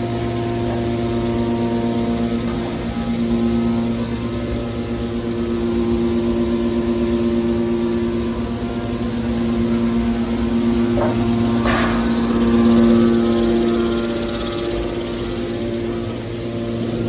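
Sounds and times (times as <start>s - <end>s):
electric motor and pump humming: 0.0s - 17.0s.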